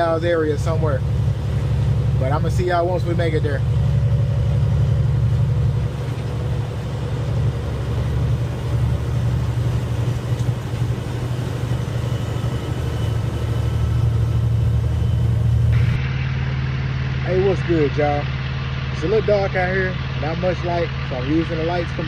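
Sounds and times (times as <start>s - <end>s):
road noise: 0.0s - 22.0s
truck diesel engine droning: 0.0s - 22.0s.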